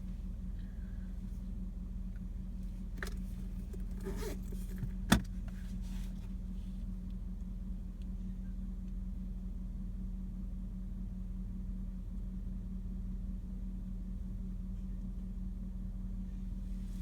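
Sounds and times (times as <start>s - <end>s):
car idling hum: 0.0s - 17.0s.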